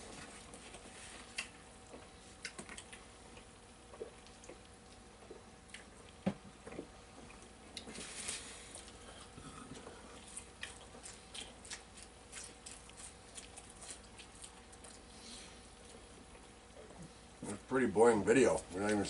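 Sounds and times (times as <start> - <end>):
soft chewing: 0.0 - 17.7.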